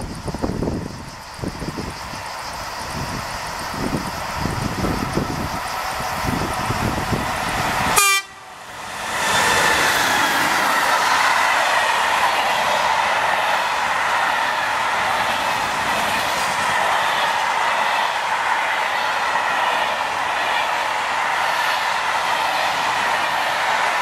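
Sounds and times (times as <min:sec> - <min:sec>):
steel wheels rushing on rail: 0:00.0 - 0:24.0.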